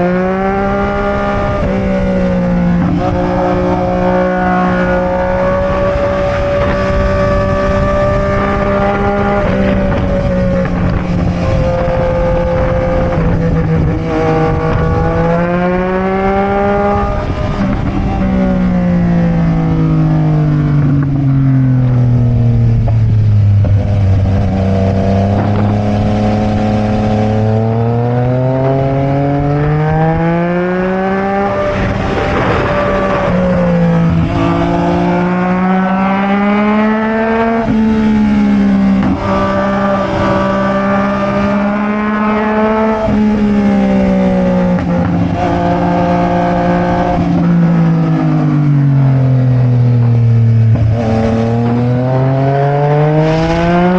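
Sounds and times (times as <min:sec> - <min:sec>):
motorcycle engine while riding: 0:00.0 - 0:53.9
wind noise: 0:00.0 - 0:53.9.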